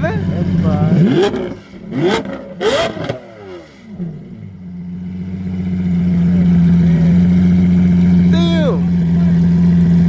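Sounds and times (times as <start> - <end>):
car approaching: 0.0 - 10.0
car engine revving: 0.0 - 10.0.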